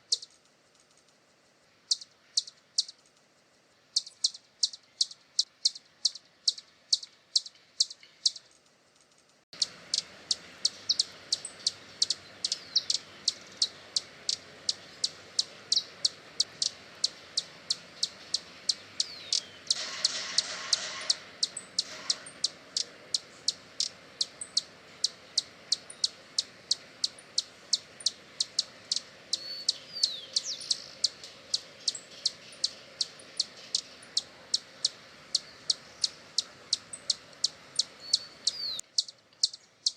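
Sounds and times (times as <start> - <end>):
bird calls: 0.0 - 0.4, 1.9 - 3.1, 3.9 - 8.6, 9.6 - 39.9
hummingbird chip calls: 0.0 - 0.4, 1.8 - 3.0, 3.9 - 8.5, 9.6 - 39.9.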